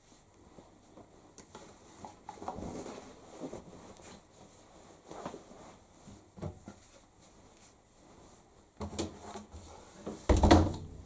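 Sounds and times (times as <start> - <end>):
cloth rustling: 0.0 - 10.2.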